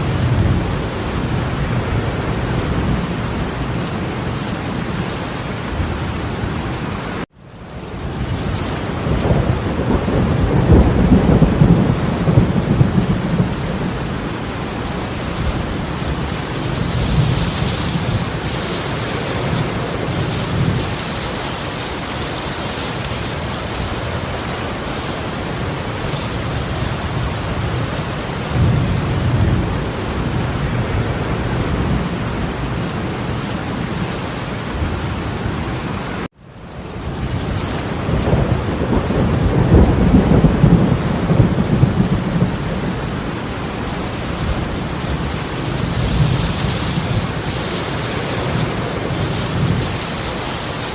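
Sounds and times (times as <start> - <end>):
low thunder rumbling: 0.0 - 6.9, 7.9 - 35.9, 36.8 - 50.9
torrential rain pouring: 0.0 - 50.9.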